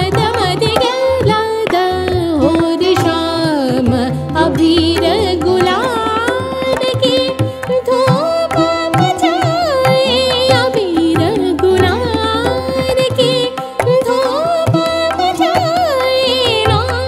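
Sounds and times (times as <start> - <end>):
tabla strokes: 0.0 - 17.0.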